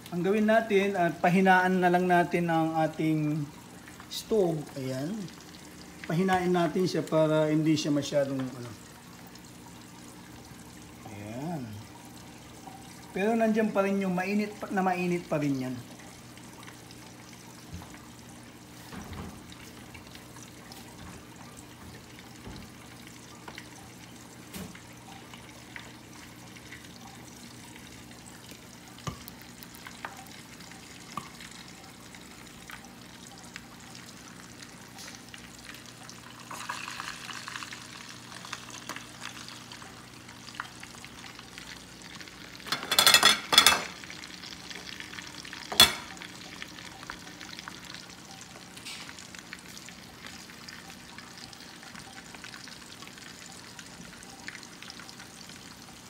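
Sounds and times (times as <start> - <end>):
pork sizzling in hot oil: 0.0 - 56.0.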